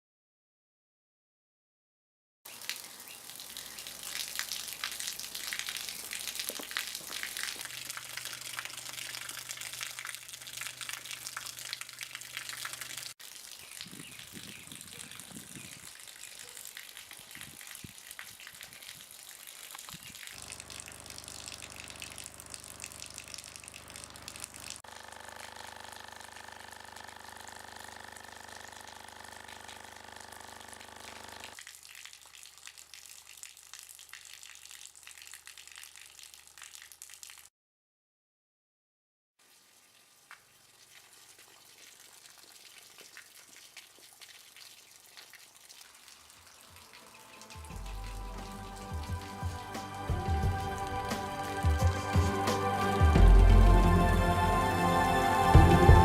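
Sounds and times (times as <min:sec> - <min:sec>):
running water gushing: 0:02.5 - 0:37.5, 0:39.4 - 0:50.0.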